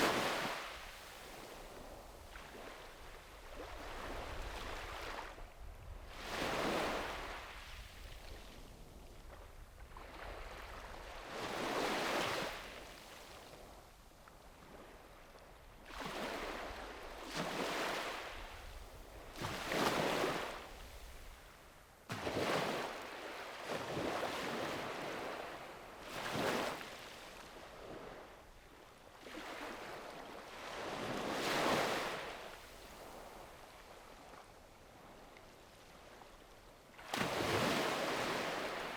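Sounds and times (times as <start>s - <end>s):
small waves washing up beach: 0.0s - 13.8s, 14.5s - 21.4s, 22.1s - 38.9s.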